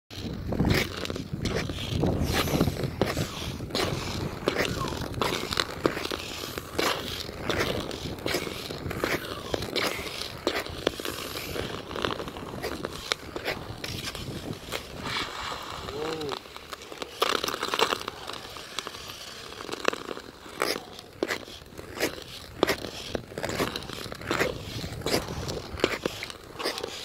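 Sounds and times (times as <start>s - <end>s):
ice skates scraping on ice: 0.1s - 27.0s.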